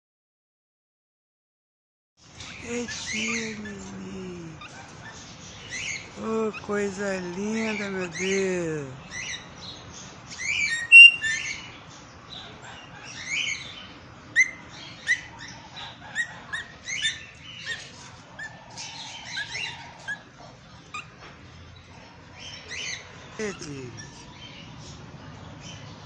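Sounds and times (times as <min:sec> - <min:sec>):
caged birds chirping: 0:02.2 - 0:26.0.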